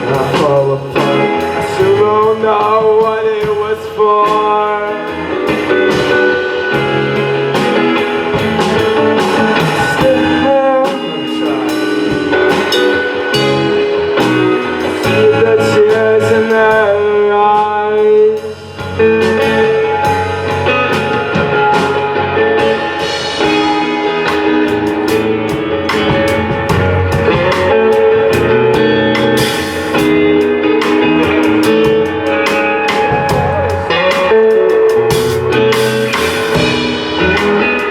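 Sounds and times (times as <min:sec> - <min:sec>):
live band playing: 0:00.0 - 0:37.9.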